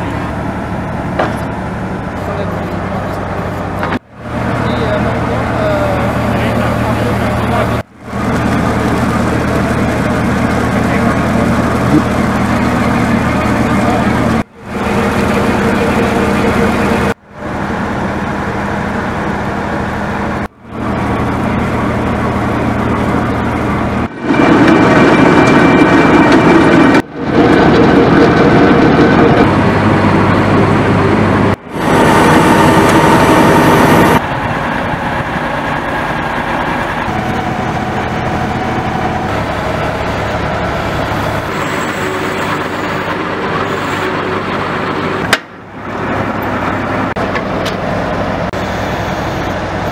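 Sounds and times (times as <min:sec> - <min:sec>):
drilling rig engine and machinery: 0:00.0 - 0:49.9.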